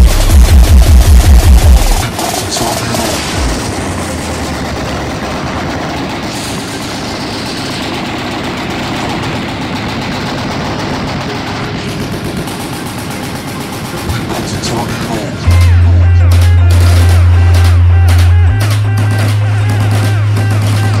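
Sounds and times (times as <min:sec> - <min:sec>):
machine guns firing: 0:00.0 - 0:21.0.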